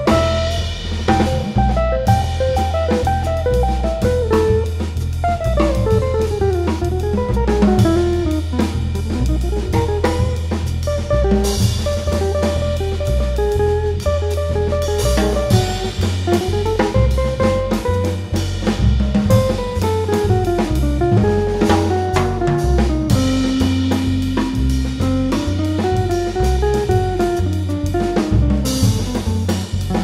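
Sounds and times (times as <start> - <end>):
electric guitar melody: 0.0 - 18.3, 19.3 - 29.2
double bass notes: 0.0 - 30.0
drum kit with cymbals: 0.0 - 30.0.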